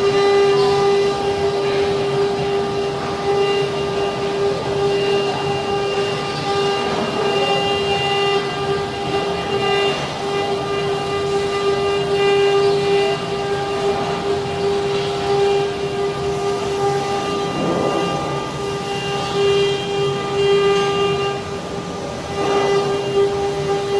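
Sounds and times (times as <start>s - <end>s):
machine spindle whine: 0.0s - 23.9s.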